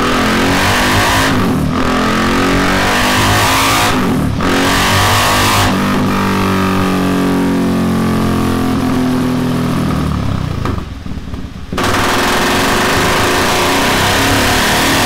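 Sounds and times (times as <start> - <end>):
motorcycle engine revving: 0.0 - 11.0, 11.7 - 15.0.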